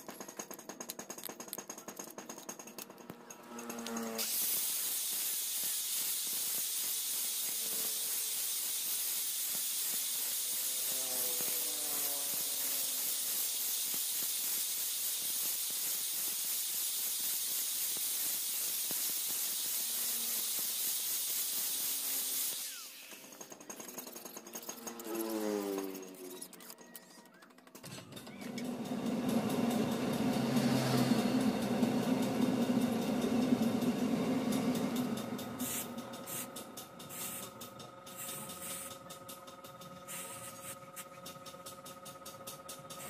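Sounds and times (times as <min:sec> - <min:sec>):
angle grinder grinding steel: 0:02.2 - 0:26.6, 0:28.5 - 0:43.0.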